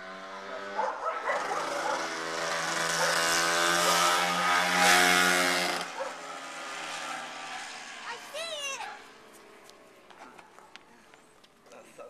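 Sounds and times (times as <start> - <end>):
dirt bike engine passing: 0.0 - 11.0.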